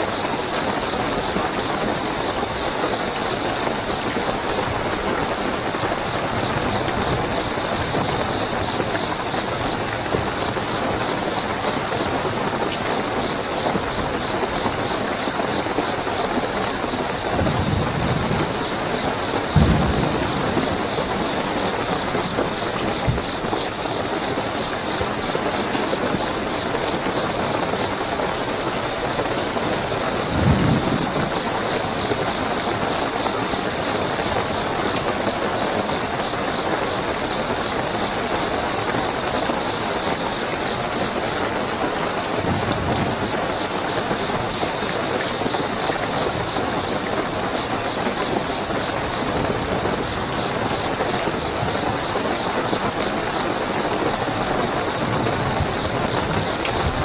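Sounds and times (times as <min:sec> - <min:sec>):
crickets trilling: 0:00.0 - 0:57.0
heavy rainfall: 0:00.0 - 0:57.0.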